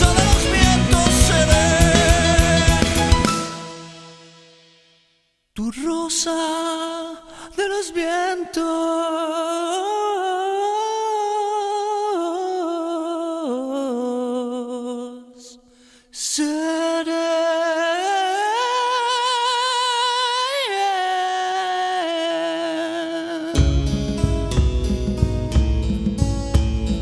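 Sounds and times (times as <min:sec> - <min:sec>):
person singing with vibrato: 0:00.0 - 0:04.6, 0:05.6 - 0:24.6.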